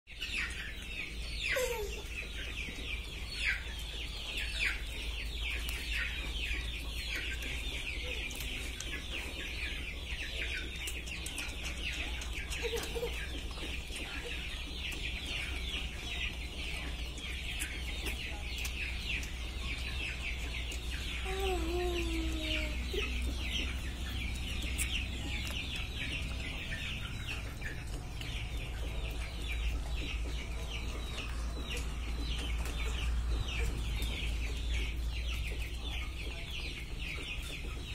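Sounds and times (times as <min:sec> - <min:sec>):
chicks peeping: 0:00.1 - 0:37.9
low steady hum: 0:00.2 - 0:37.9.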